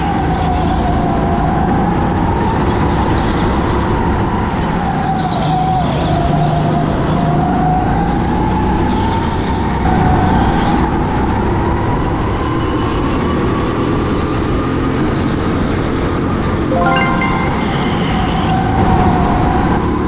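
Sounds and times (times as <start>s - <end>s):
road and wind noise: 0.0s - 16.7s, 18.0s - 20.0s.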